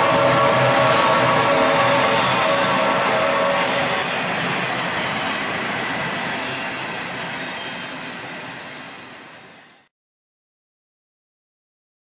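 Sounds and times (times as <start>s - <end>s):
freight train rolling past: 0.0s - 9.9s.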